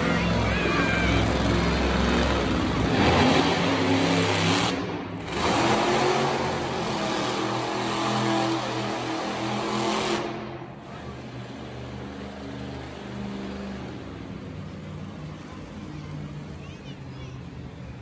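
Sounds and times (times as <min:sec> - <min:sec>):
monster truck engine revving: 0:00.0 - 0:16.6.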